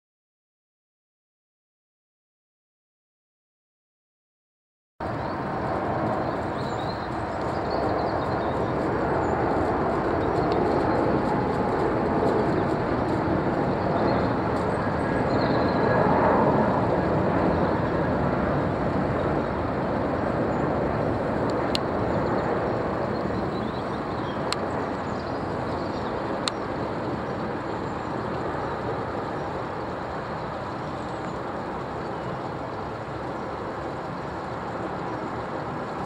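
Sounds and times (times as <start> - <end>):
jet airliner passing overhead: 5.0 - 36.0.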